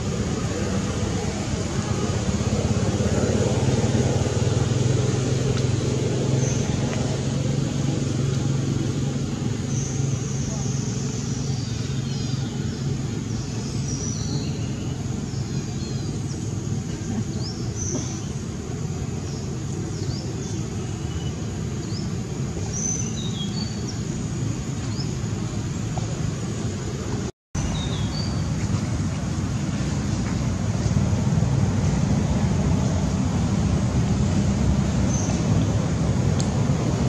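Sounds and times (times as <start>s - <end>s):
birds chirping: 0.0s - 30.6s, 34.9s - 35.9s.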